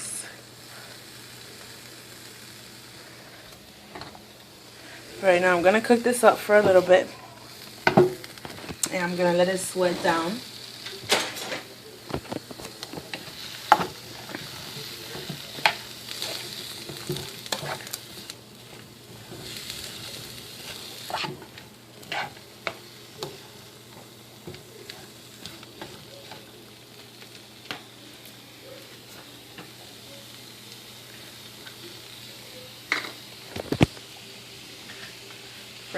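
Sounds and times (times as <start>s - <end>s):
vegetables sizzling in a pot: 0.0s - 35.9s.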